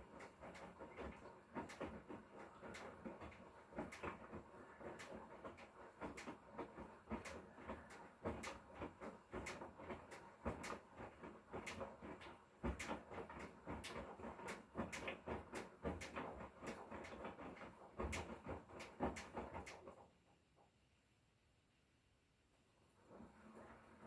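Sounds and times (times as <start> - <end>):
washing machine drum tumbling: 0.0 - 20.1.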